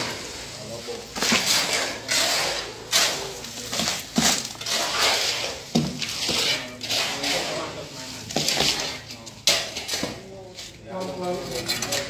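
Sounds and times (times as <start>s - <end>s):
shovels scraping concrete mix: 0.0s - 12.0s.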